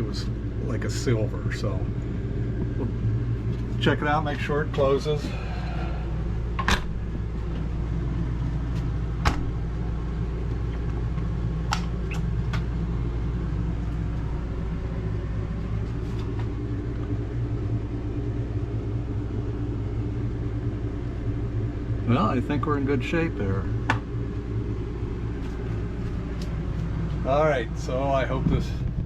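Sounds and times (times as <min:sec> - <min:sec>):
refrigerator hum: 0:00.0 - 0:29.0.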